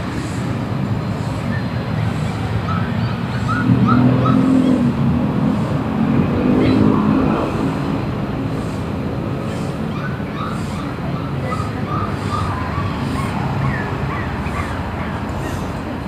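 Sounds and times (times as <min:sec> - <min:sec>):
vehicle engine running close: 0:00.0 - 0:16.0.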